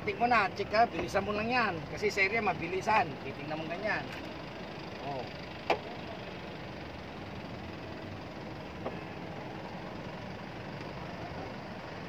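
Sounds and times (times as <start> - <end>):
engine-like rumble: 0.0 - 12.0.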